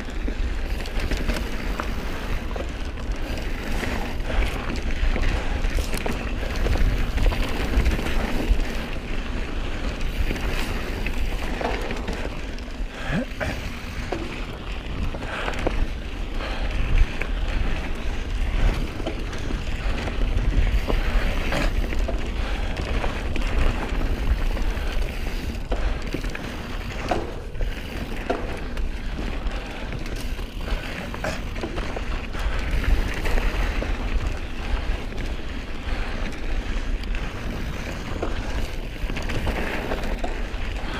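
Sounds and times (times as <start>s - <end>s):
bike knocking and rattling: 0.0s - 40.9s
bike tyres rolling over dirt: 0.0s - 40.9s
wind rumbling on microphone: 0.0s - 40.9s.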